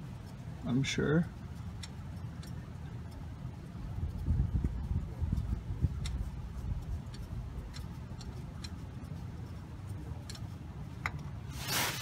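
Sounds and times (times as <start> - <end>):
filter threads ticking and clicking: 0.0 - 11.2
low steady rumble: 0.0 - 12.0.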